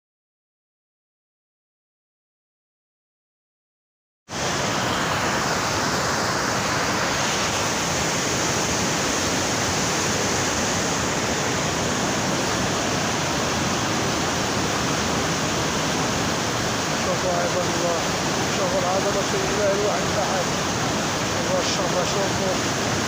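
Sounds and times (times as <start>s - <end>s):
torrential rain pouring: 4.3s - 23.0s.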